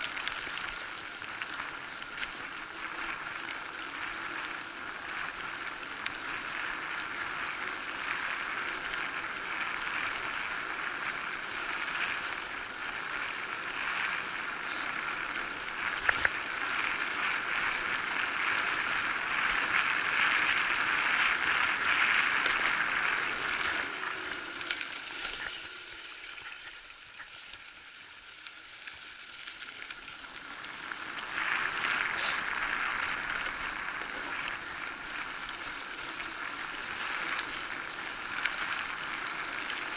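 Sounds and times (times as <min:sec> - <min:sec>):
bike tyres hissing on gravel: 0:00.0 - 0:39.9.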